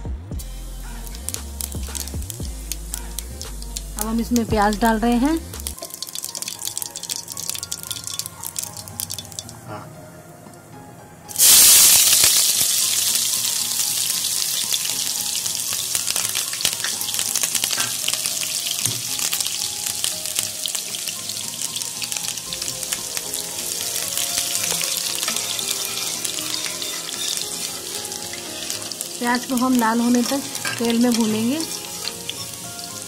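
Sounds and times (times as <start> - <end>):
onion sizzling in hot oil: 0.4 - 9.8, 11.3 - 33.0.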